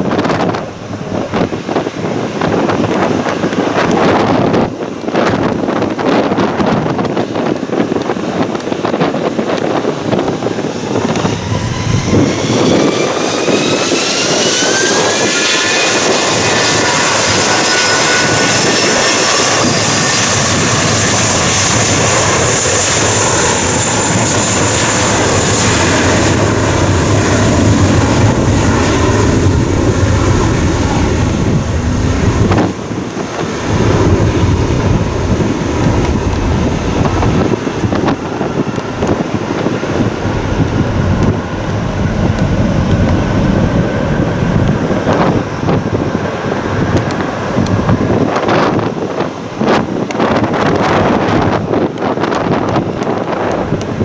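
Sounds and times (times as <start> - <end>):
jet engines spooling up: 0.0 - 54.0
wind on microphone: 0.0 - 54.0.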